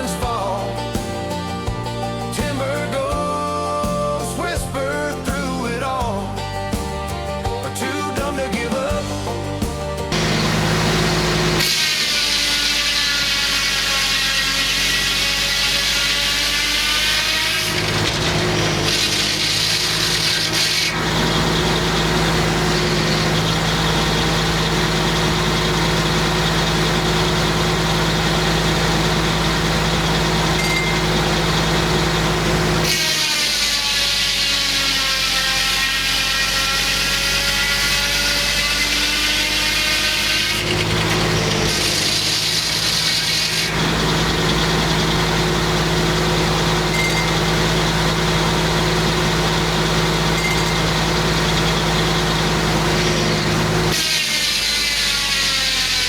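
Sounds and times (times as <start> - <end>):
circular sawmill cutting log: 0.0 - 6.2, 7.8 - 56.0.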